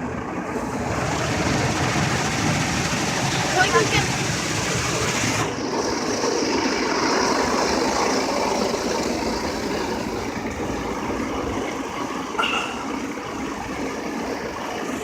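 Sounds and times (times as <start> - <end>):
car wash machinery: 0.0 - 15.0
water spray rushing: 0.6 - 15.0.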